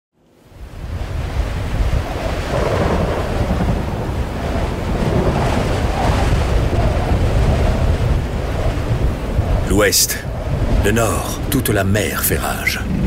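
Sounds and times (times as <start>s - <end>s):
wind: 0.1s - 13.0s
heavy surf: 0.4s - 13.0s.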